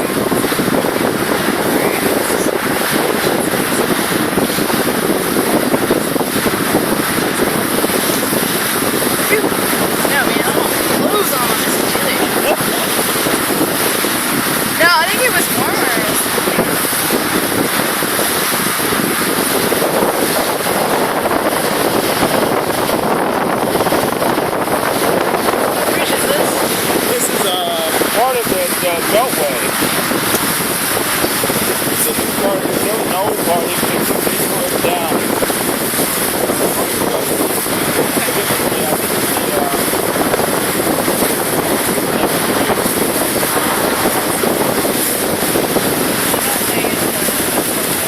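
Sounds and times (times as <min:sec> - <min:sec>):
water rushing past boat: 0:00.0 - 0:48.0
wind on microphone: 0:00.0 - 0:48.0.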